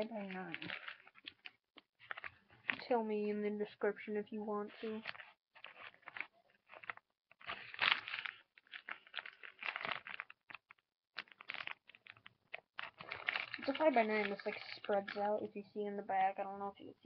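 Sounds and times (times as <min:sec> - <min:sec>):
paper wrapper crinkling: 0:00.0 - 0:03.3, 0:04.7 - 0:16.5.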